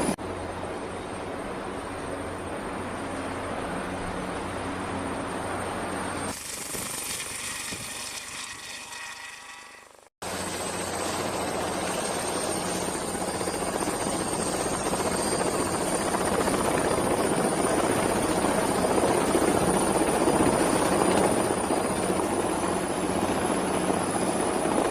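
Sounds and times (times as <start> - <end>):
helicopter rotor noise: 0.0 - 24.9
high turbine whine: 0.0 - 24.9.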